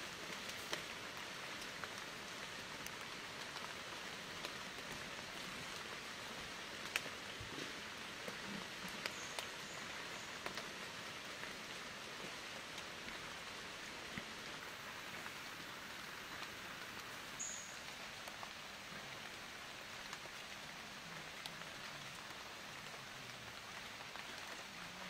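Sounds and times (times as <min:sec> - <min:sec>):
light rain hiss: 0:00.0 - 0:25.0.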